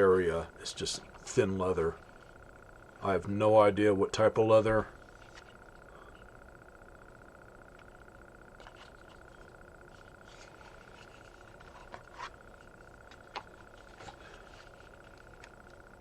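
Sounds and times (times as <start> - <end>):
faint high-pitched hum: 0.0 - 16.0.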